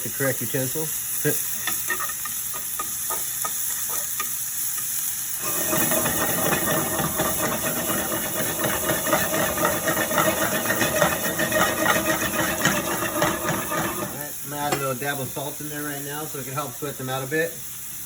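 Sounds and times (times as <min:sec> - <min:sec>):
aromatics sizzling in hot oil: 0:00.0 - 0:18.0.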